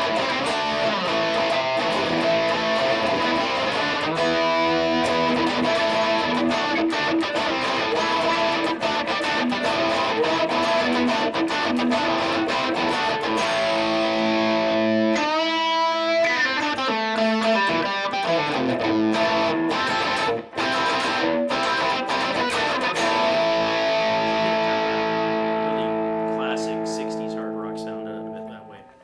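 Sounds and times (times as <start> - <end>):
electric guitar picked notes: 0.0 - 29.0.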